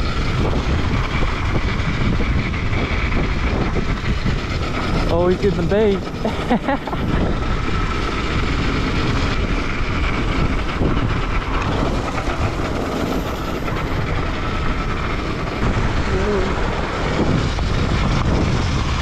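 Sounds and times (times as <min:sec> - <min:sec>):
dirt bike engine running: 0:00.0 - 0:19.0
wind on microphone: 0:00.0 - 0:19.0.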